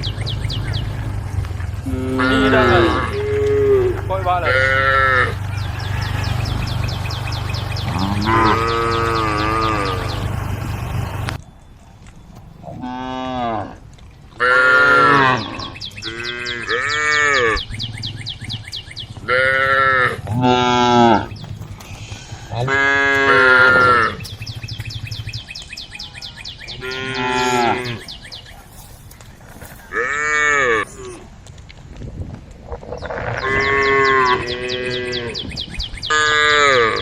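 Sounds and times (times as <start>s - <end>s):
cows mooing: 0.0s - 11.4s, 12.6s - 13.8s, 14.4s - 17.8s, 19.1s - 25.2s, 26.1s - 28.8s, 29.7s - 31.3s, 32.9s - 37.0s.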